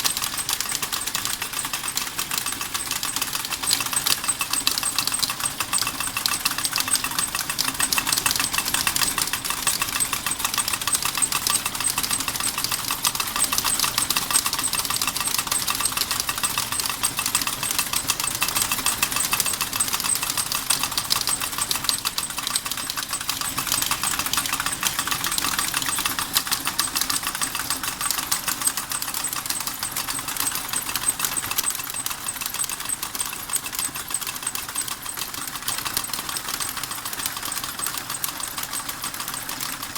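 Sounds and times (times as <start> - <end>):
model steam engine clattering: 0.0 - 39.9.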